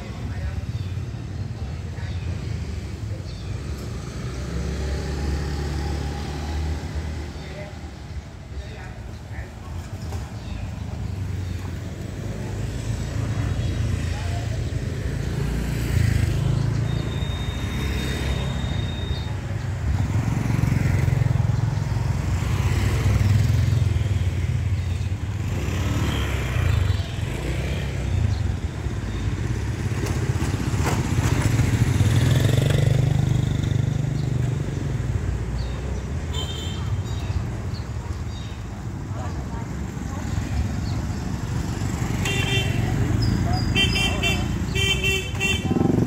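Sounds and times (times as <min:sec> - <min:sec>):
low traffic rumble: 0:00.0 - 0:46.0
motorcycles passing: 0:00.0 - 0:46.0.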